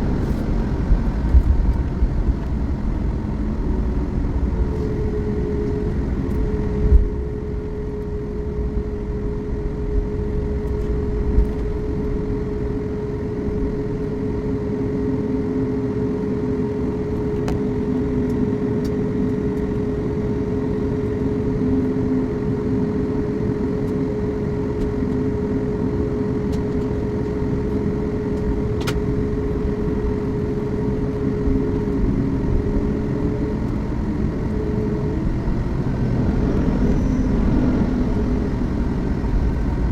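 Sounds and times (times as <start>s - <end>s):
airplane cabin hum: 0.0s - 39.9s.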